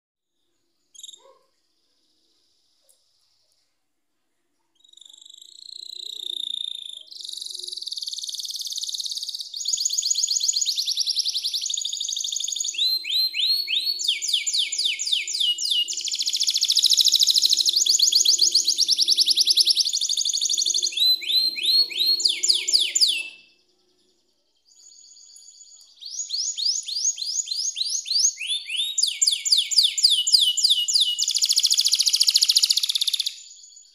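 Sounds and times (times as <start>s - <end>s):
canary trilling: 0.9s - 1.4s, 4.8s - 24.1s, 26.0s - 33.6s.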